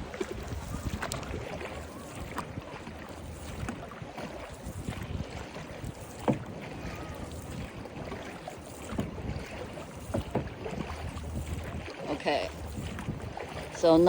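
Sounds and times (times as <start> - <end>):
small splashes: 0.0 - 14.0
water rushing and sloshing: 0.0 - 14.0
wind buffeting microphone: 0.0 - 14.0.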